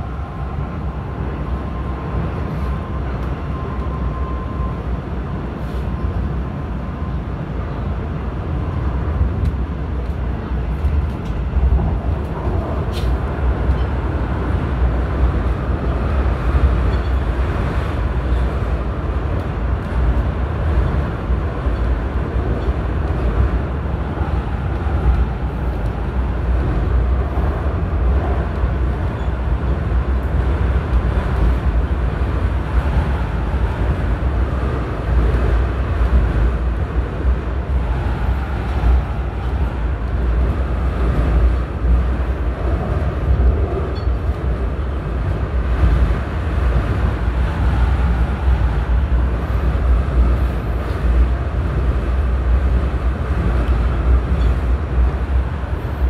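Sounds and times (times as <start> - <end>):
train wheels rumbling on rails: 0.0 - 56.0
wind noise: 0.0 - 56.0.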